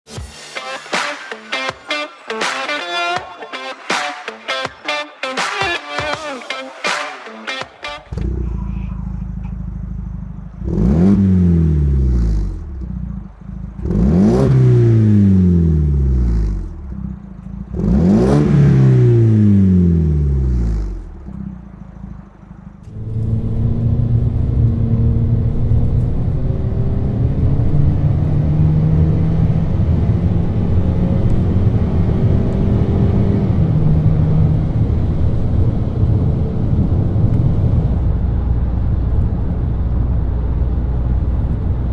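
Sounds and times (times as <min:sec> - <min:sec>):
car engine revving: 0:03.8 - 0:41.9
deep exhaust drone: 0:08.1 - 0:41.9.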